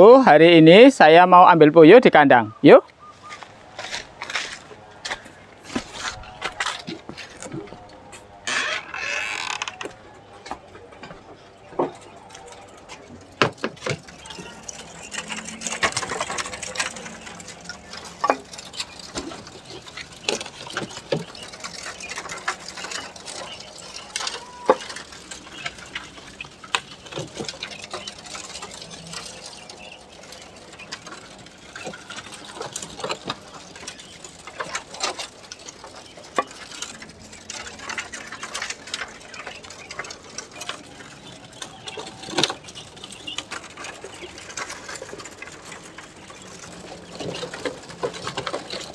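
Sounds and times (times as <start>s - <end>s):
birds scrabbling inside cages: 0.0s - 48.9s
cages clicking and rattling: 0.0s - 48.9s.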